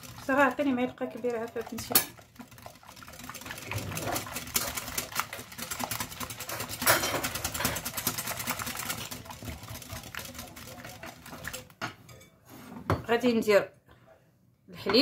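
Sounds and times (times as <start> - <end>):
whisk clicking against glass bowl: 0.0 - 12.2.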